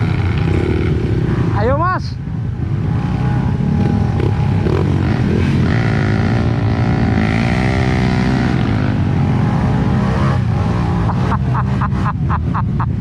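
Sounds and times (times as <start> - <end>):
motorcycle engine revving: 0.0 - 1.7, 2.5 - 13.0.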